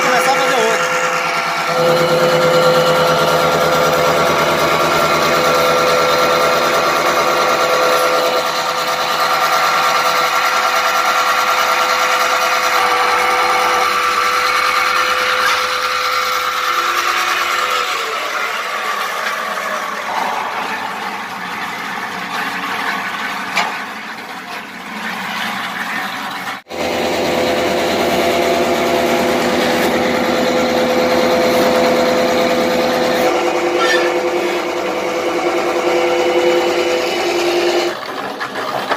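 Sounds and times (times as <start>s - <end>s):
electric motor humming: 0.0s - 22.2s, 26.7s - 38.0s.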